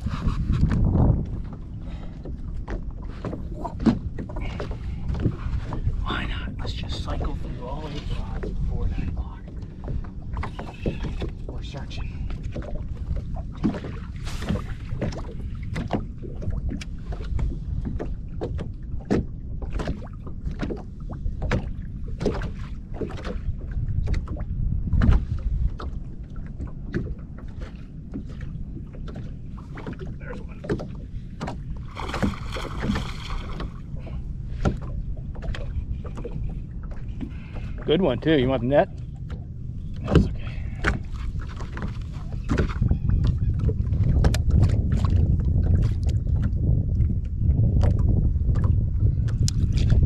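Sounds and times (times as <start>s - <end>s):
small waves slapping boat hull: 0.0s - 50.0s
wind buffeting microphone: 0.0s - 50.0s.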